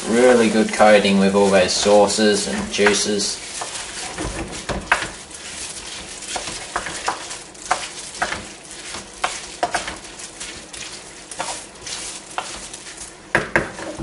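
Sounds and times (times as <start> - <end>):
frying hiss: 0.0 - 14.0
wooden spoon scraping pan: 0.0 - 14.0.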